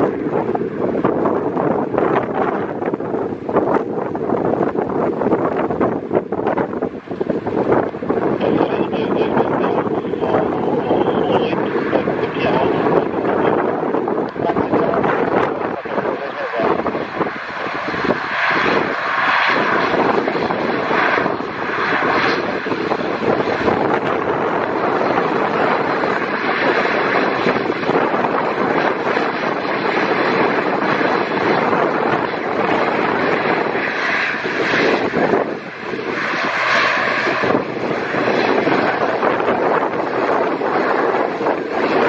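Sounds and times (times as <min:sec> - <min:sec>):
turboprop engines running: 0:00.0 - 0:42.0.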